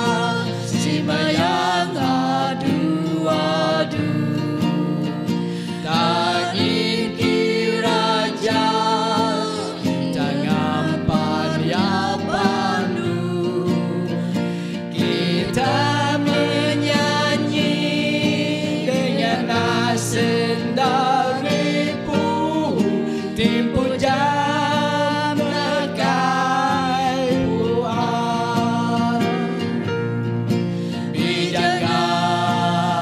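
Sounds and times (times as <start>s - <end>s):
group singing a hymn: 0.0s - 33.0s
strummed acoustic guitar: 0.0s - 33.0s.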